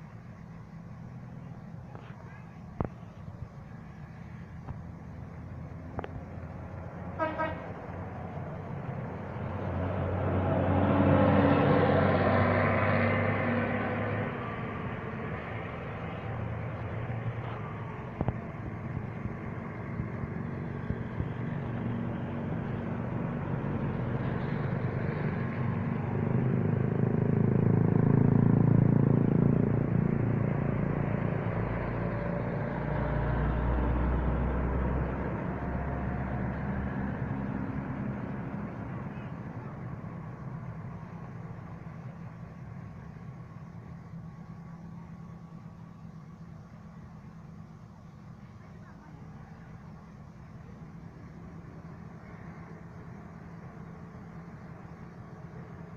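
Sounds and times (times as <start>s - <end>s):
vehicle engines running: 0.0s - 55.9s.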